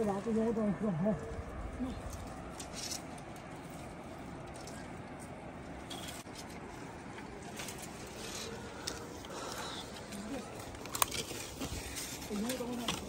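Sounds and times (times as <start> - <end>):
steady low rumble: 0.0 - 12.3
dry branches rustling and crackling: 0.0 - 13.0.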